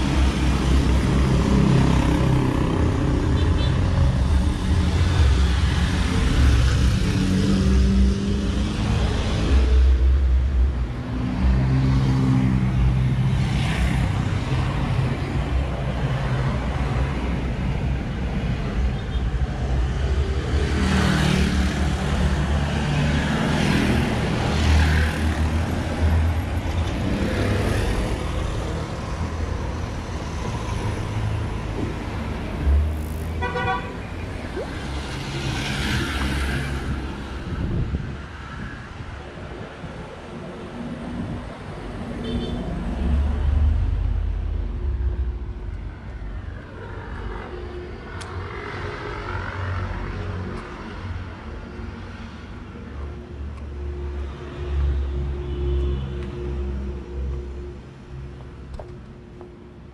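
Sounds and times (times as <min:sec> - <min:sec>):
vehicles passing by: 0:00.0 - 0:59.9.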